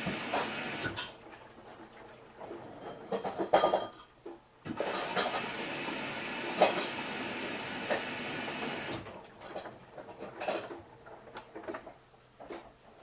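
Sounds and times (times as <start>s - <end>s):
washing machine tumbling: 0.0s - 3.6s, 4.6s - 12.6s.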